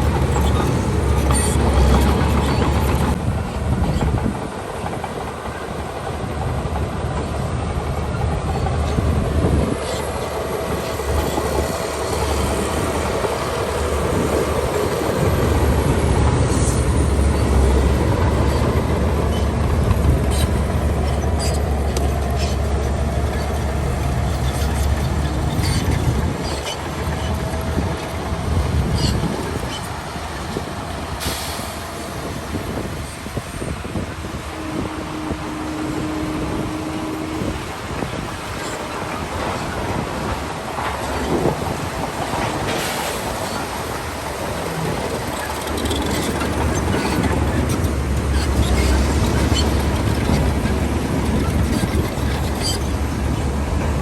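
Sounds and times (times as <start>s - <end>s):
bulldozer diesel engine rumbling: 0.0s - 54.0s
steel tracks clanking: 0.0s - 54.0s.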